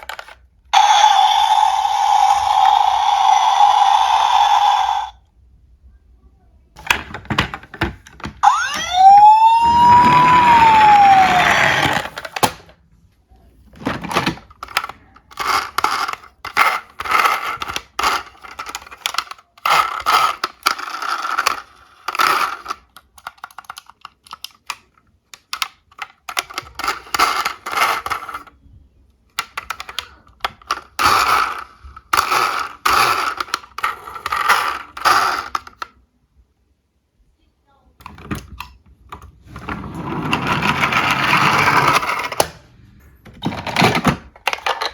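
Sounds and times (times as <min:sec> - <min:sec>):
toy cars clattering: 0:00.0 - 0:05.2, 0:06.8 - 0:12.8, 0:13.6 - 0:28.6, 0:29.2 - 0:36.0, 0:38.0 - 0:42.6, 0:43.3 - 0:44.9.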